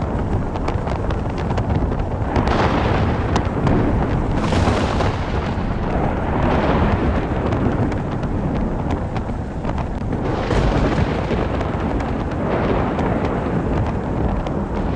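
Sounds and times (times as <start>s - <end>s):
rolling thunder: 0.0s - 14.9s.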